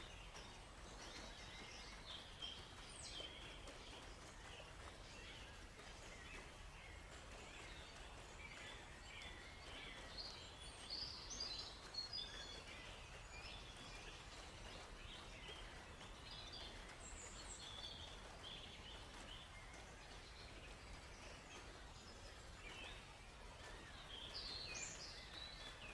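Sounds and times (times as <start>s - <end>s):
faint background hiss: 0.0s - 25.9s
songbirds chirping: 0.0s - 25.9s.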